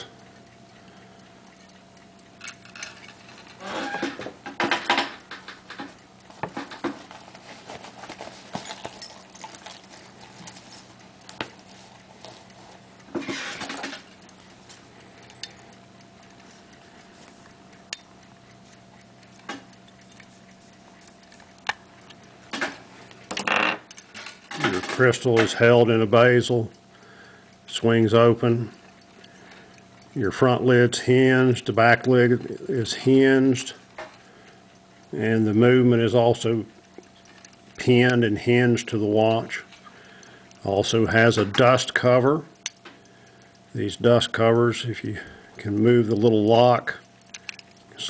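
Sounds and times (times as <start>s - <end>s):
sharp metal clicks: 0.0s - 7.4s, 13.0s - 16.5s, 17.5s - 48.0s.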